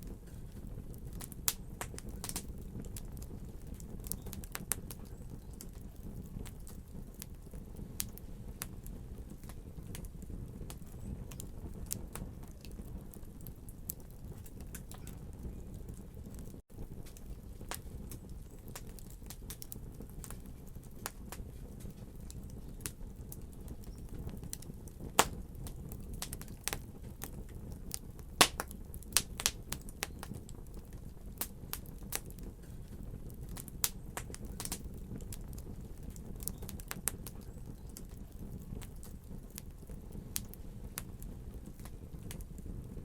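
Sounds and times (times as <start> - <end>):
fire crackling and popping: 0.0 - 43.0
fire rumbling: 0.0 - 43.0.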